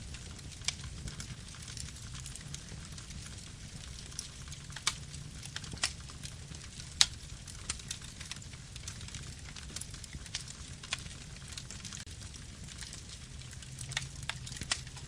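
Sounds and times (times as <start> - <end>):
campfire wood burning: 0.0 - 15.0.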